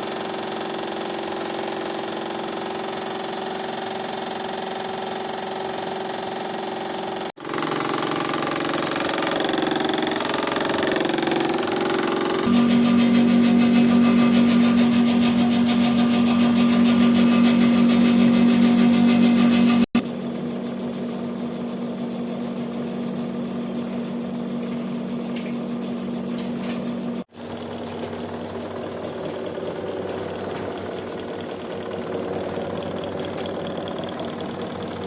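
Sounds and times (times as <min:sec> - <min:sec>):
air conditioner rattling hum: 0:00.0 - 0:35.0.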